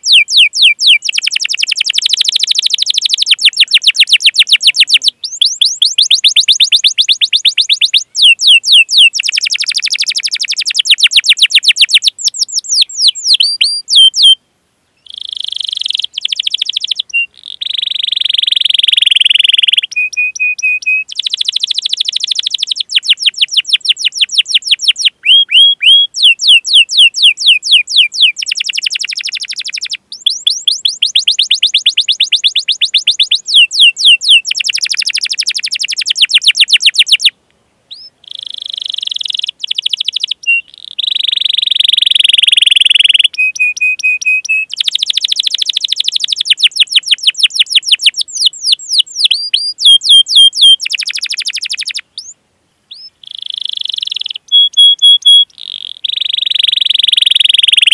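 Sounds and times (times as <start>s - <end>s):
canary singing: 0.0s - 14.4s, 15.0s - 57.9s.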